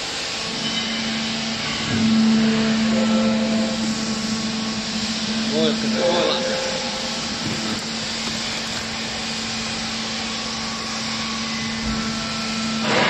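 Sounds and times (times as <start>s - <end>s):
electric motor and pump humming: 0.0s - 13.0s.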